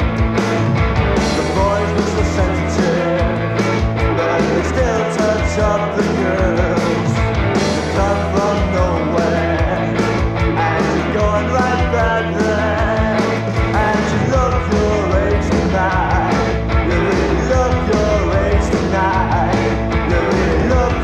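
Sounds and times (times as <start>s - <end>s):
rock song with singer: 0.0s - 21.0s.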